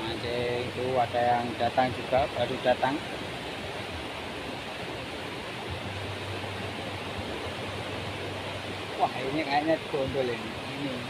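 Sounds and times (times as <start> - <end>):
sea waves washing ashore: 0.0 - 11.0.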